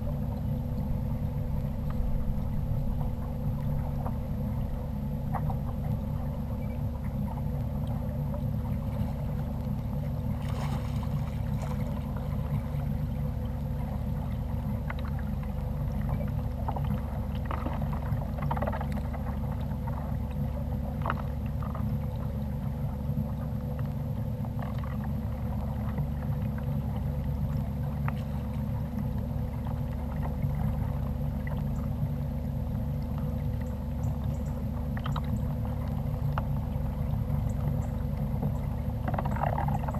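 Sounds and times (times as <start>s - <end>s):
faint constant hum: 0.0s - 39.9s
kayak on water rumble: 0.0s - 39.9s.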